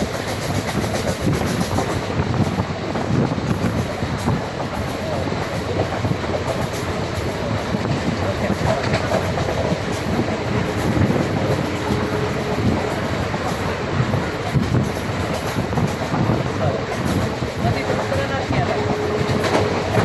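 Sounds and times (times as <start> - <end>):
train rumbling on track: 0.0 - 20.0
wheels rattling and clattering: 0.0 - 20.0.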